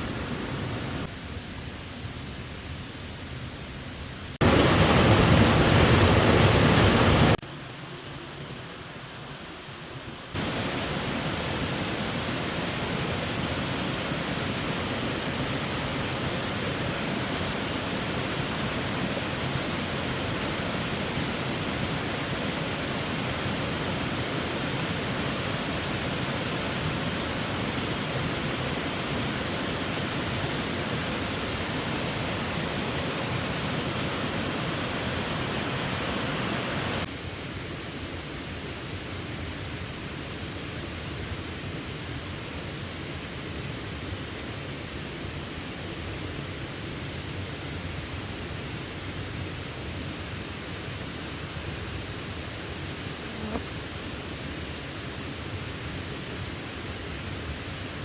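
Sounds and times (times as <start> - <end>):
rushing water roar: 0.0 - 3.2, 4.4 - 58.0.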